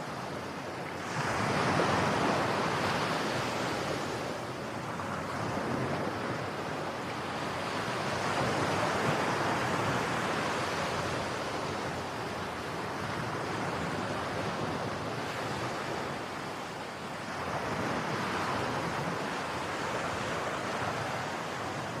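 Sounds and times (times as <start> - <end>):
ocean waves breaking: 0.1 - 22.0.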